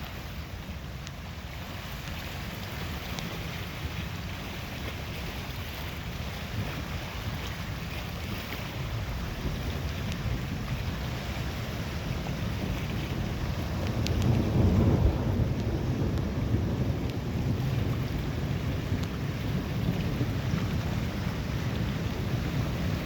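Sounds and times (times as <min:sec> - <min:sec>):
lake waves washing: 0:00.0 - 0:23.0
wind buffeting microphone: 0:00.0 - 0:23.0.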